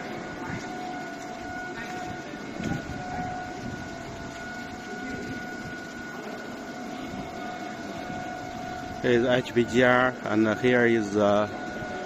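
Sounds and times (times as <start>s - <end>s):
high-pitched machine whine: 0.0s - 12.0s.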